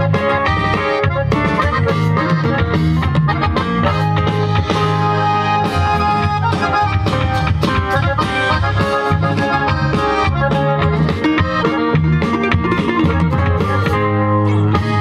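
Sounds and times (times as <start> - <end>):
accordion melody: 0.0 - 15.0
bass guitar: 0.0 - 15.0
drum kit steady beat: 0.0 - 15.0.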